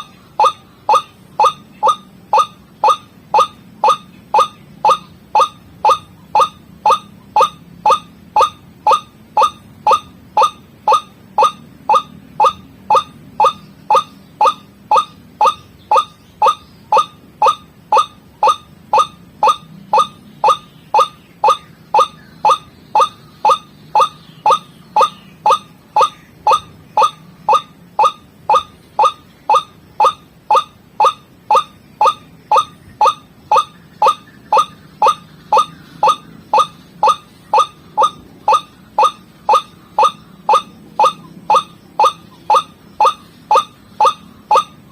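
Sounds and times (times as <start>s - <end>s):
waterhen calling: 0.0s - 44.9s.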